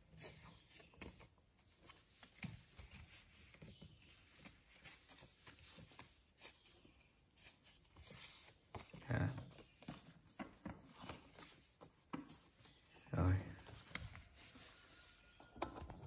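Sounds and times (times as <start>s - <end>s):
paper rustling and crinkling: 0.1s - 16.0s.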